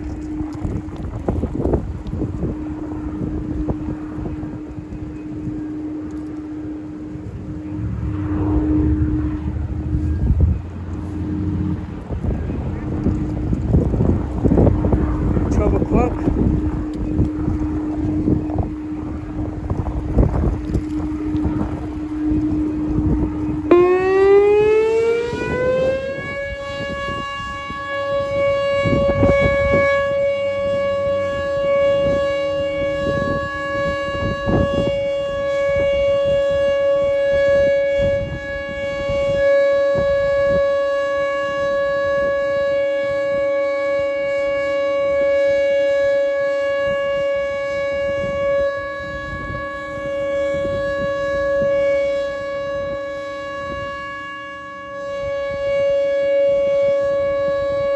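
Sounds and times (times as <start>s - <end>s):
second siren low steady tone: 0.0s - 57.9s
warning siren winding up: 0.0s - 57.9s.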